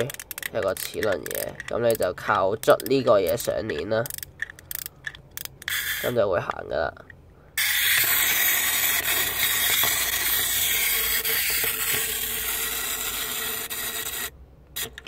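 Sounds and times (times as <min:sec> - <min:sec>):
wind-up toy train motor whirring: 0:00.0 - 0:06.3, 0:07.6 - 0:15.0.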